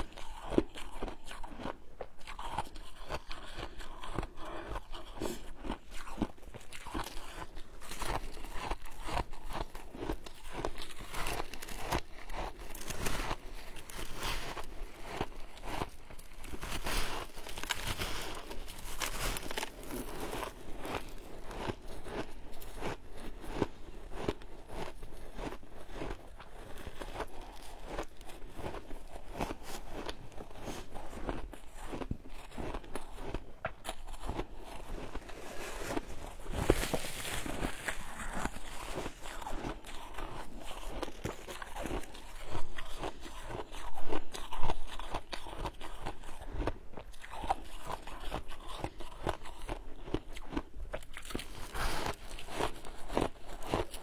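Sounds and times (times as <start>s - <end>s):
crunching and chewing ice: 0.0s - 54.0s.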